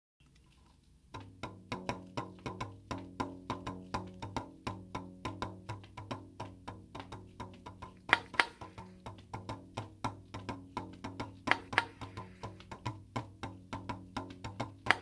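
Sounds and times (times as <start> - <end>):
fingers tapping balloon membrane: 1.0 - 15.0.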